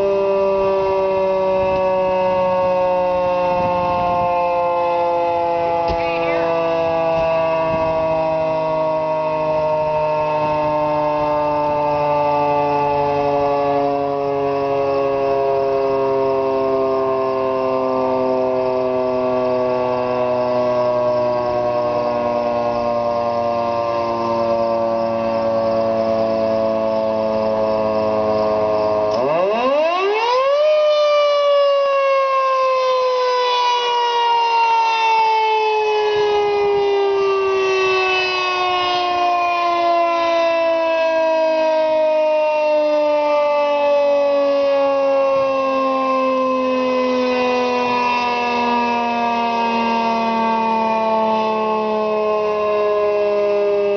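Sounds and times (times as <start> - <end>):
three-tone warning siren: 0.0 - 53.9.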